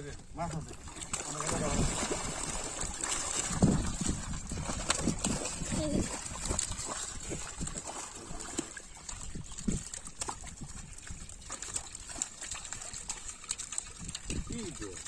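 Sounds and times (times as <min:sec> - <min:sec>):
water splashing and sloshing: 0:00.0 - 0:15.0
fish flapping in water: 0:00.6 - 0:15.0.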